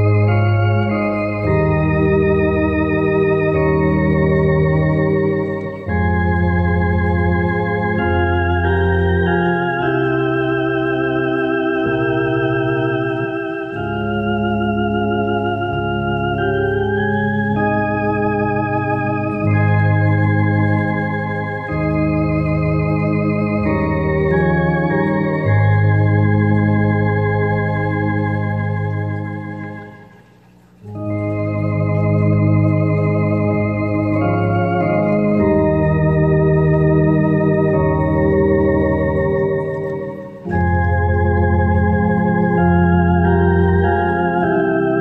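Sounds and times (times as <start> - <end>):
electronic organ playing a hymn: 0.0 - 45.0.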